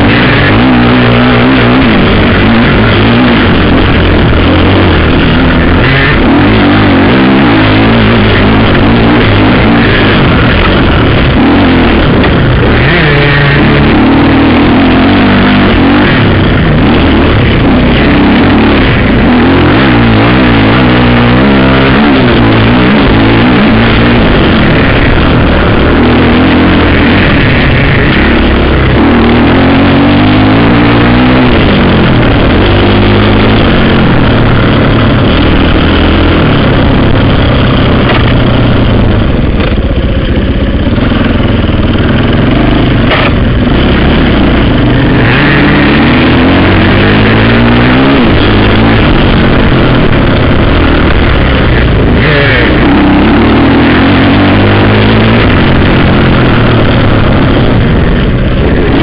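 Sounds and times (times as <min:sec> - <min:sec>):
rock music: 0:00.0 - 0:55.9
dirt bike engine revving: 0:00.0 - 0:59.0.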